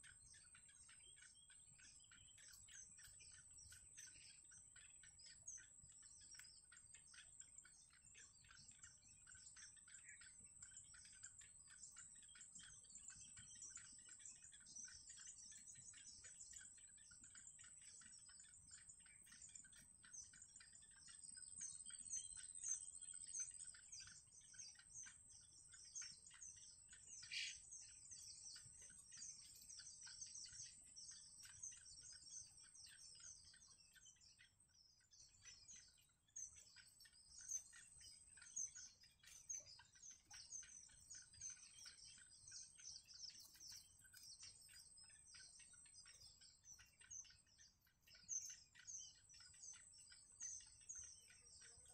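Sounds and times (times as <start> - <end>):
bird chicks begging peeps: 0.0 - 51.9.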